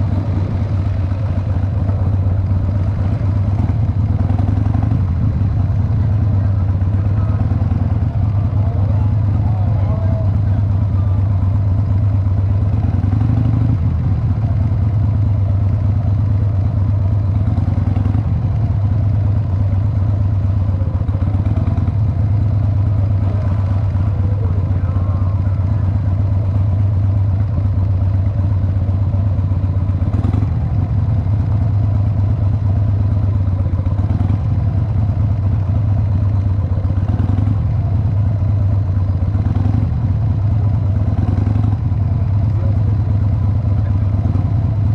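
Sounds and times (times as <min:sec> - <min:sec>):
motorcycle engine at low revs: 0:00.0 - 0:44.9.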